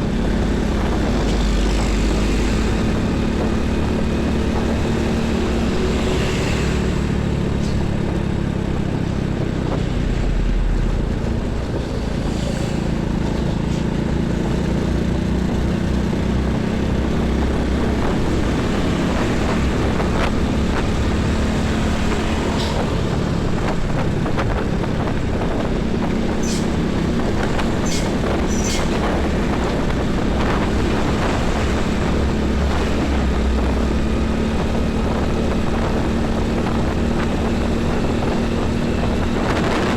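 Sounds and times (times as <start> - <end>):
heavy highway traffic: 0.0 - 39.9.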